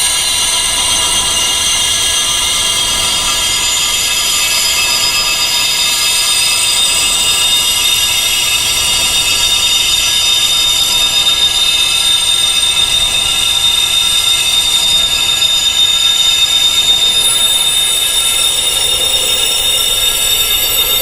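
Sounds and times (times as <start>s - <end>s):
wind chimes ringing: 0.0s - 21.0s.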